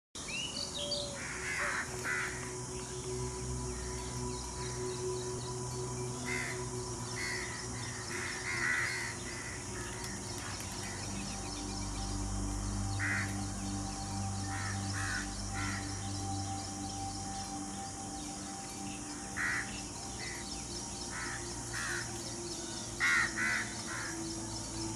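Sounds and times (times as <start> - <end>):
sustained background tones: 0.2 - 24.9.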